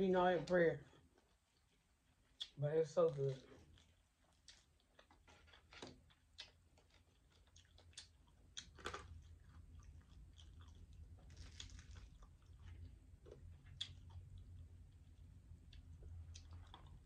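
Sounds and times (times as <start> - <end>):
chewing crispy chicken: 3.2 - 17.0.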